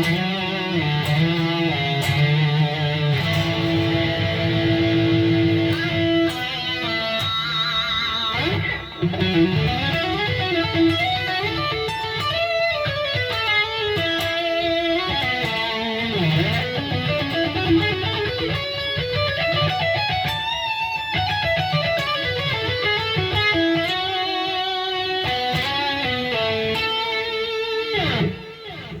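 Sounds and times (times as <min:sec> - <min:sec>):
electric guitar lead with slides: 0:00.0 - 0:29.0.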